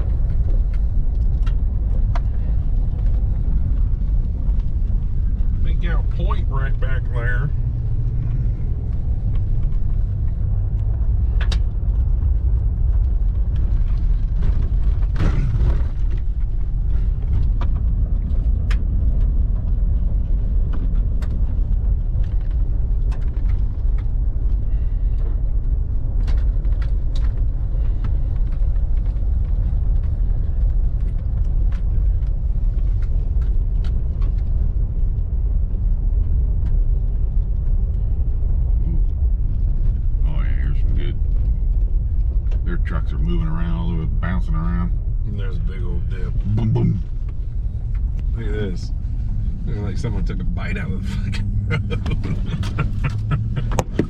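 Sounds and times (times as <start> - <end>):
vehicle jolt: 0.0 - 54.0
vehicle rumble on dirt trail: 0.0 - 54.0.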